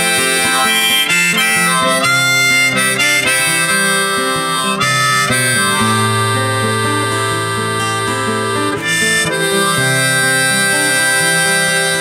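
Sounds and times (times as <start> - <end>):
guitar: 0.0 - 12.0
harmonica melody: 0.0 - 12.0.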